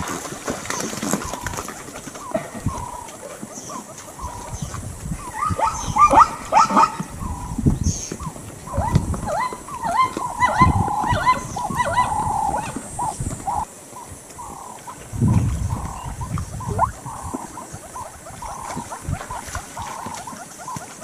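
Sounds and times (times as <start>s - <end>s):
zebras braying: 0.7s - 21.0s.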